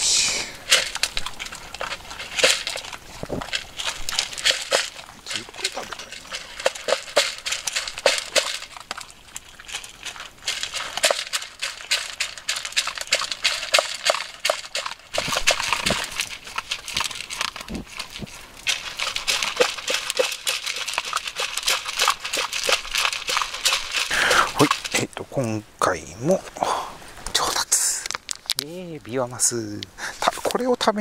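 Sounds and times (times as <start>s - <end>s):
dogs crunching dry kibble: 0.5s - 25.6s, 27.5s - 30.7s.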